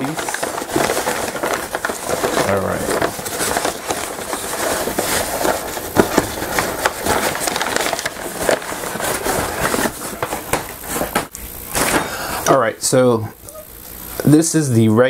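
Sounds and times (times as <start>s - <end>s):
packing paper rustling: 0.0s - 12.3s.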